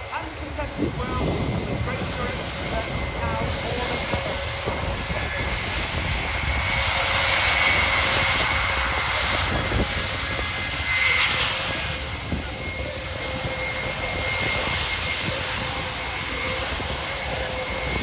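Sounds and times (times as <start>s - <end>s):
turboprop engines with high whine: 0.0s - 18.0s.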